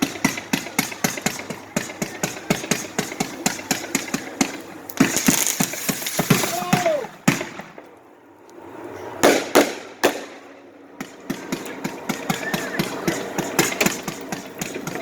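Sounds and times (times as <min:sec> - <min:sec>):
loud firework bangs: 0:00.0 - 0:07.9, 0:09.2 - 0:15.0
rapid firework shots: 0:00.0 - 0:07.9, 0:09.2 - 0:15.0.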